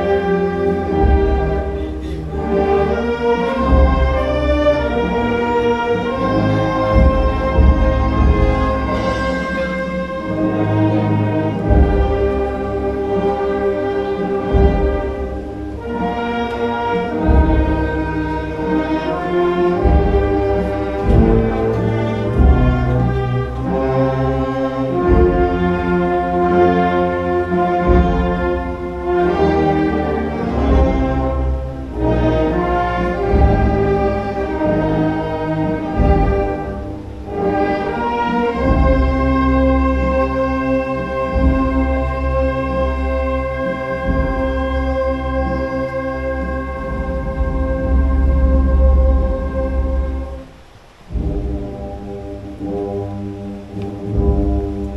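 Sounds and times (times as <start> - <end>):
orchestral music: 0.0 - 54.9.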